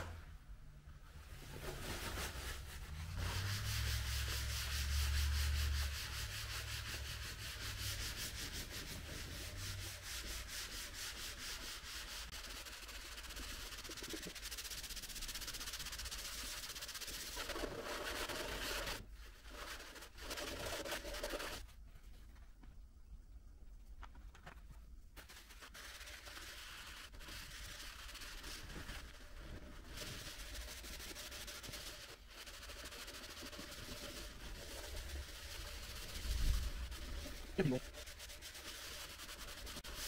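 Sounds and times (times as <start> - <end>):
dry rubbing strokes: 1.0 - 22.4, 25.2 - 40.0.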